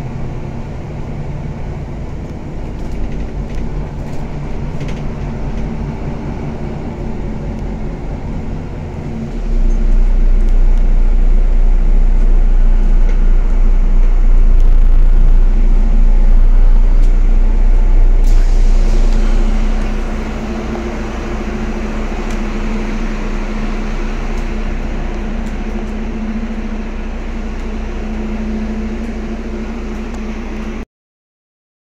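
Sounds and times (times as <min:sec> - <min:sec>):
bus engine rumble: 0:00.0 - 0:30.8.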